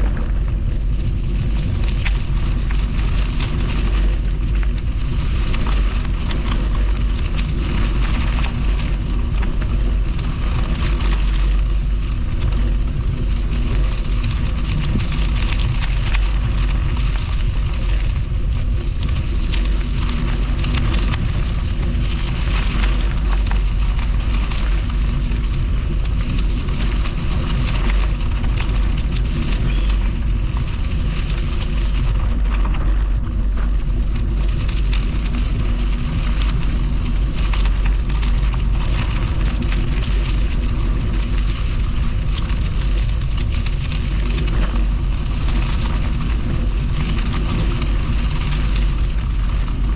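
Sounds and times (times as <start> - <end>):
crackly rolling noise: 0.0 - 49.9
heavy low rumble: 0.0 - 49.9
wind buffeting microphone: 0.0 - 49.9.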